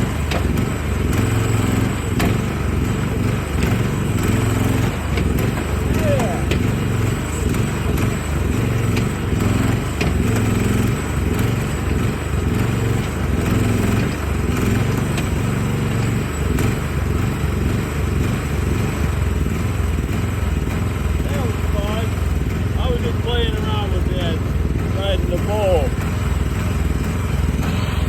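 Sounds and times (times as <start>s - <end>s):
excavator diesel engine working: 0.0s - 28.0s.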